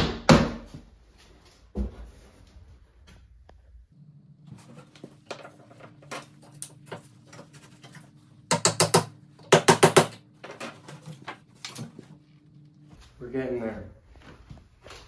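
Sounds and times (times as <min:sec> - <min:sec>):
steady low hum: 0:01.0 - 0:15.0.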